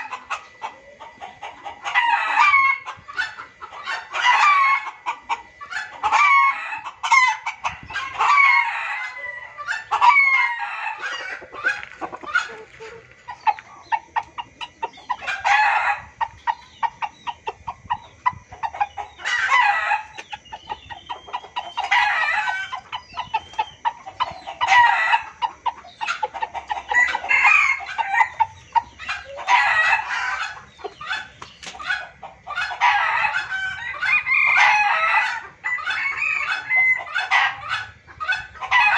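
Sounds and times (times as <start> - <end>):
junglefowl cackling and clucking: 0.0 - 38.9.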